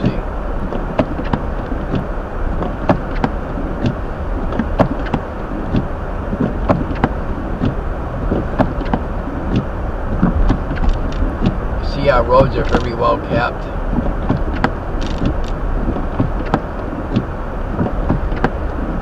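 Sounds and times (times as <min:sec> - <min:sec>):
tyre and road noise: 0:00.0 - 0:19.0.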